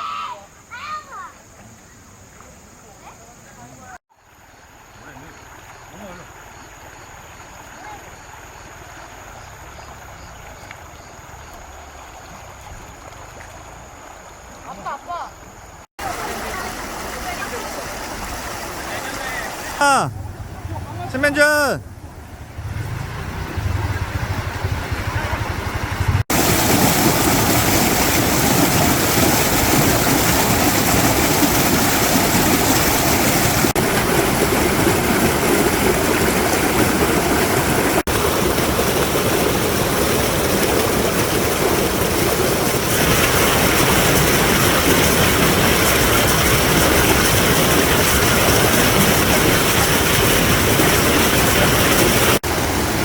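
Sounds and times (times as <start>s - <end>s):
mountain stream rushing: 6.5s - 53.0s.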